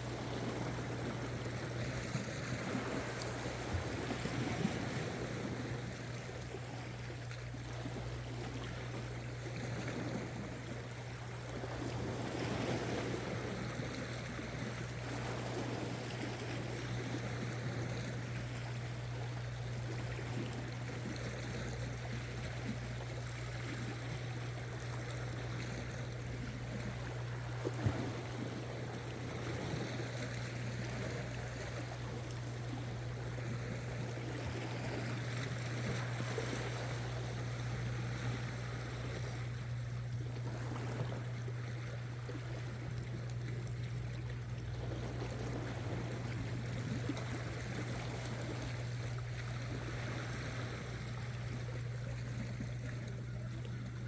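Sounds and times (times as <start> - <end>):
steady low hum: 0.0 - 54.0
water lapping against rocks: 0.0 - 54.0.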